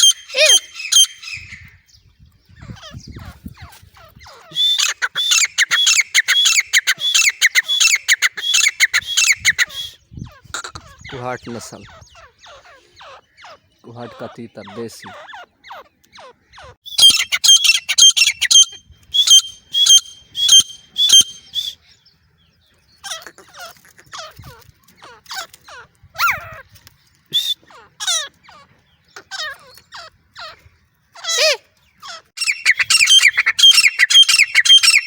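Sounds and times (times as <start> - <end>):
francolin calling: 0.0 - 1.8, 2.6 - 22.0, 27.3 - 30.6, 31.2 - 35.0.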